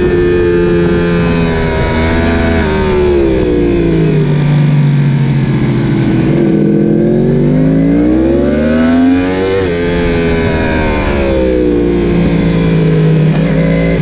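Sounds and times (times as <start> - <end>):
motorcycle engine: 0.0 - 14.0
wind noise: 0.0 - 14.0.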